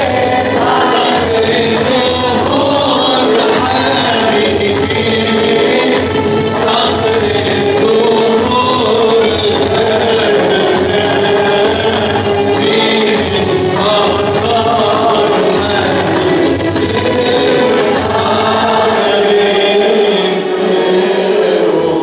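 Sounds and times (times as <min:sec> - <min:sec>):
percussion beat: 0:00.0 - 0:19.7
voices chanting a hymn: 0:00.0 - 0:22.0.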